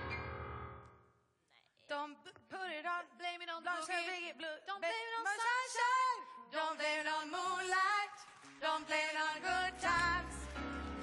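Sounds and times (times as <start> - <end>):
woman singing a pop melody: 1.6 - 10.7.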